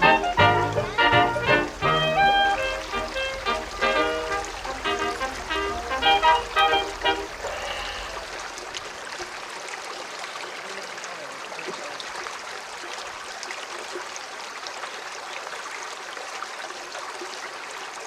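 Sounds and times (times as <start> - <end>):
stream flowing over rocks: 0.0 - 18.0.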